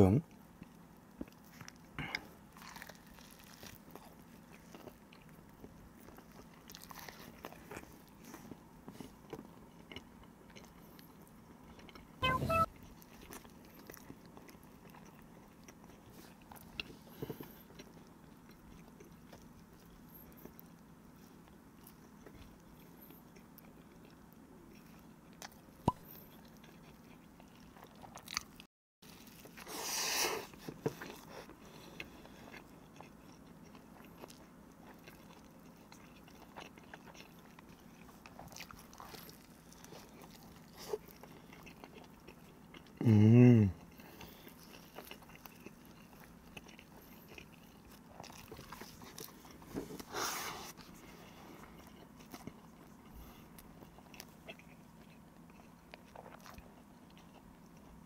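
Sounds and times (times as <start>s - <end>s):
person chewing a sandwich: 0.2s - 58.0s.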